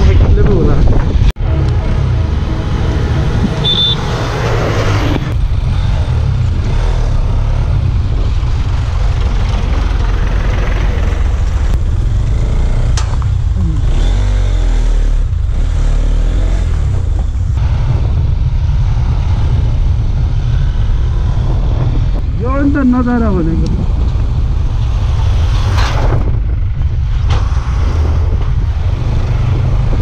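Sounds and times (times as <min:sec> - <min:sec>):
wind rumbling on microphone: 0:00.0 - 0:03.7, 0:04.3 - 0:14.2, 0:15.1 - 0:30.0
motorcycle road noise: 0:00.0 - 0:30.0.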